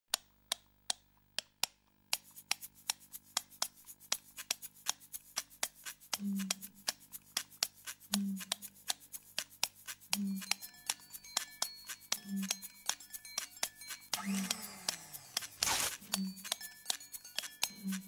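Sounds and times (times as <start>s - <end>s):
percussive clicking music: 0.1s - 18.0s.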